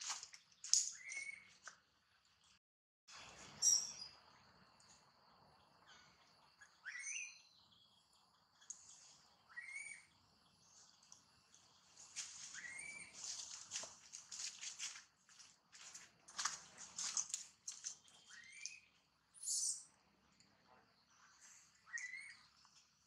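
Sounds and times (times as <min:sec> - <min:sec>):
birds chirping: 0:00.2 - 0:14.3, 0:16.6 - 0:20.0, 0:20.6 - 0:23.0.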